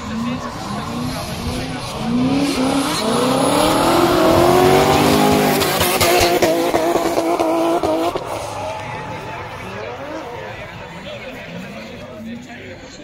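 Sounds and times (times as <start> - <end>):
car engine revving hard: 0.0 - 11.6.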